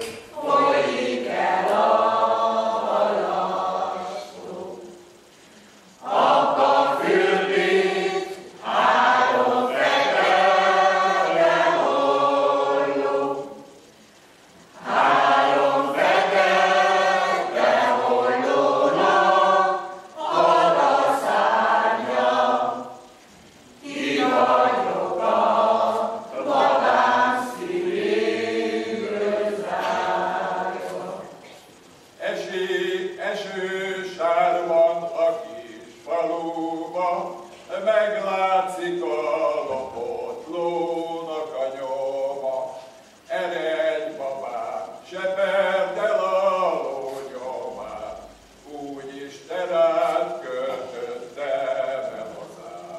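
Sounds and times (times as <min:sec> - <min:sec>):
mixed choir singing unaccompanied: 0:00.0 - 0:52.9.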